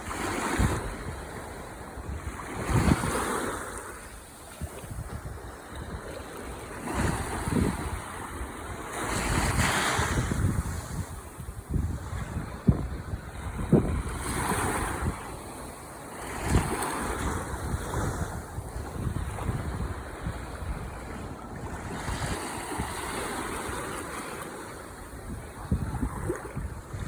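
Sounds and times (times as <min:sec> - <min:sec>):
ocean waves breaking: 0:00.0 - 0:27.0
wind buffeting microphone: 0:00.0 - 0:27.0.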